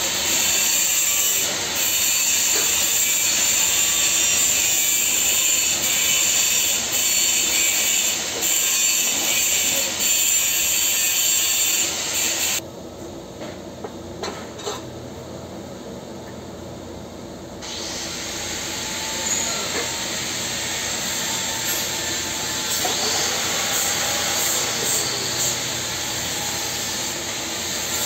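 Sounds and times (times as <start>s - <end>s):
welding arc hissing: 0.0s - 12.6s, 17.6s - 28.0s.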